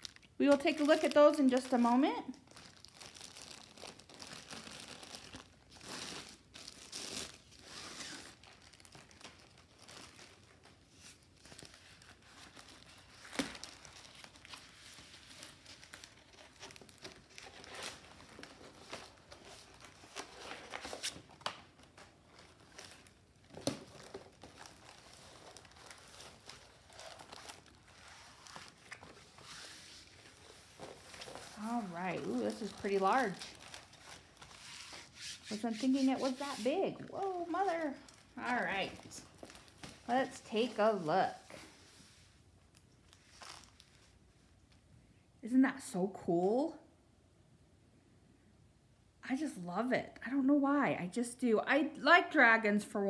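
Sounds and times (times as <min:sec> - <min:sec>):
canvas and paper rustling: 0:00.0 - 0:44.2
plastic wrapping crinkling: 0:00.0 - 0:44.5.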